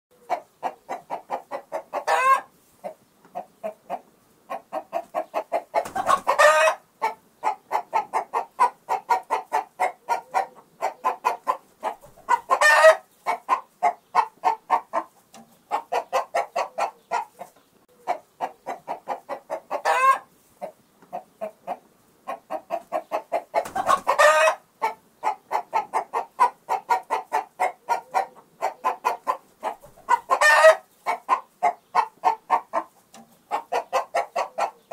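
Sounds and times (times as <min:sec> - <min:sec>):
hen cackling: 0:00.2 - 0:15.1, 0:15.7 - 0:34.9.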